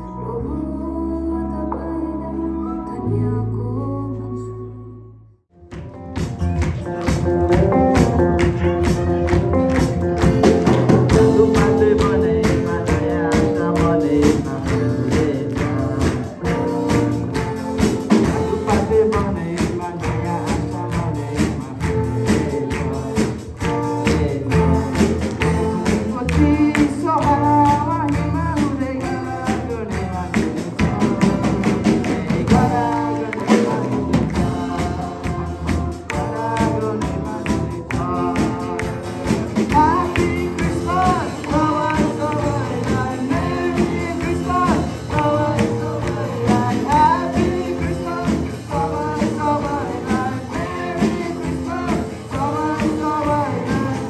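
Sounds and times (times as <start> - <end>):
live rock band playing: 5.5 - 54.0.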